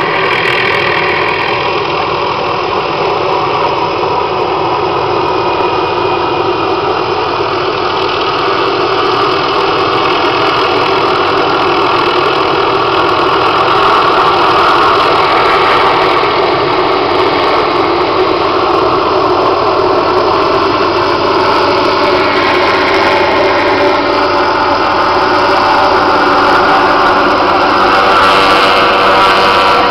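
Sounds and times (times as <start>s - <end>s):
helicopter engine and rotor: 0.0s - 29.9s.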